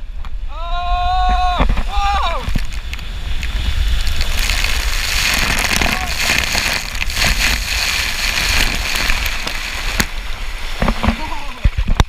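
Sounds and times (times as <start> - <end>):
low buffeting rumble: 0.0 - 11.7
water rushing and spraying: 1.3 - 12.0.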